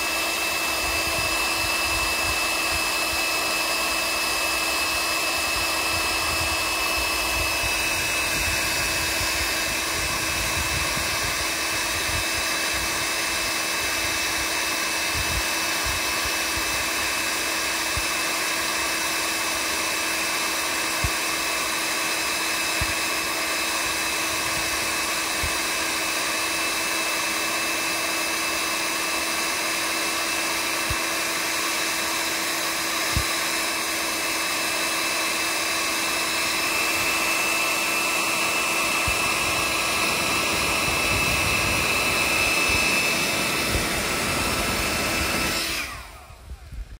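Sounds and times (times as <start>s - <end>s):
heat gun fan whirring: 0.0s - 46.9s.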